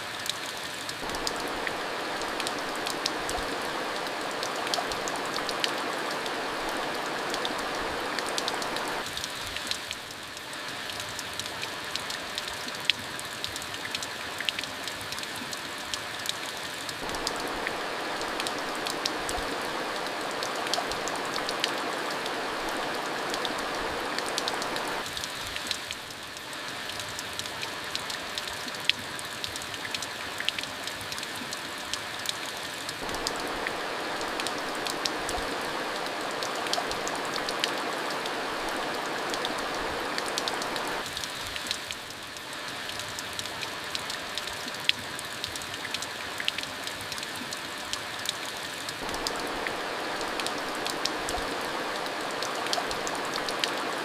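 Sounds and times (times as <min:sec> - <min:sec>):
raindrops ticking on a surface: 0:00.0 - 0:54.0
steady rain falling: 0:00.0 - 0:54.0.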